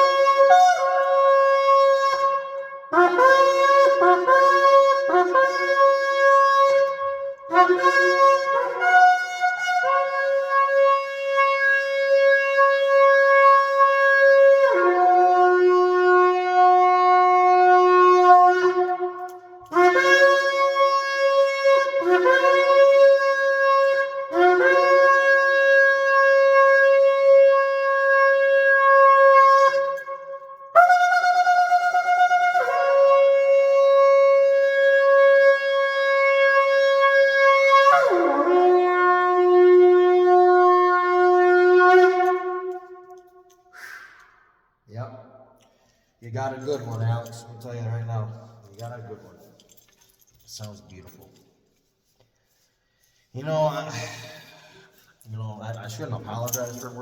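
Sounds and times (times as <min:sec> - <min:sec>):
shofar blasts: 0:00.0 - 0:45.3, 0:46.5 - 0:50.0, 0:53.4 - 0:57.0.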